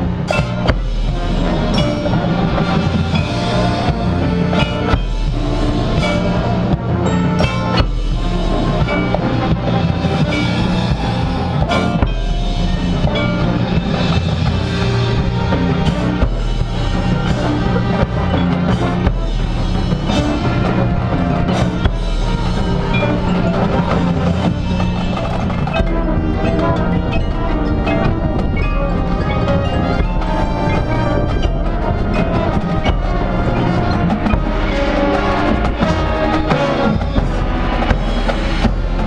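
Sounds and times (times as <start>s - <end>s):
marching band playing: 0.0s - 39.0s.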